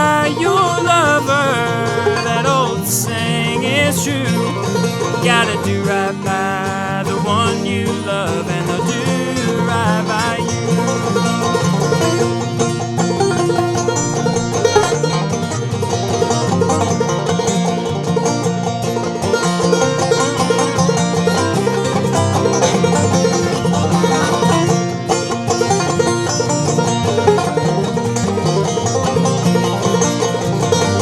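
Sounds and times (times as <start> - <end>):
banjo playing: 0.0 - 31.0.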